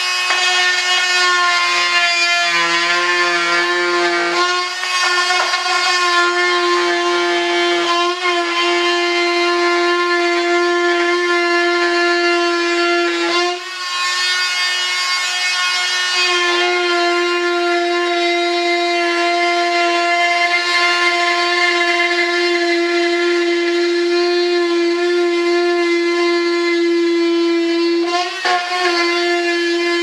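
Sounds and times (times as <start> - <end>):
power cutter whining: 0.0 - 30.0.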